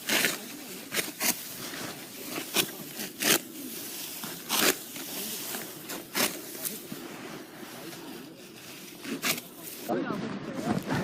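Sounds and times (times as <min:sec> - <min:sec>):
sickle cutting rice stalks: 0:00.0 - 0:09.9.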